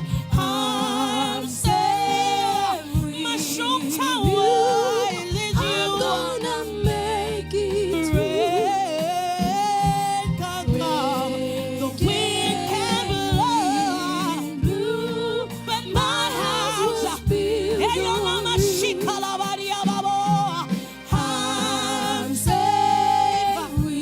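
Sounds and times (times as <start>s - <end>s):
gospel choir singing: 0.0s - 24.0s
instrumental backing: 0.0s - 24.0s
low drum beat: 1.6s - 3.5s, 4.2s - 24.0s.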